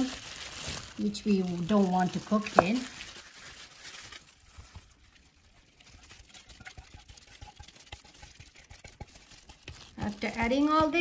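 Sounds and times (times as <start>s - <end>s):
wet squishing of hand rubbing chicken: 0.0s - 11.0s.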